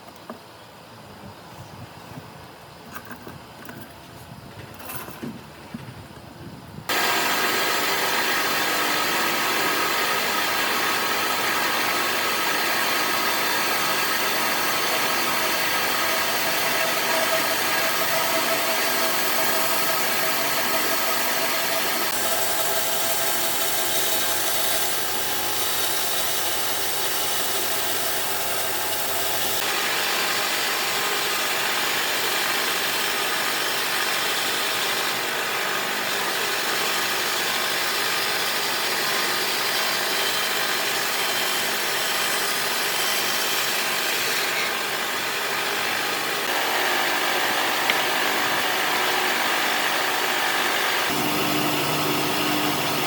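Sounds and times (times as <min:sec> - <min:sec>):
woodworking power tool running: 0:06.9 - 0:53.0.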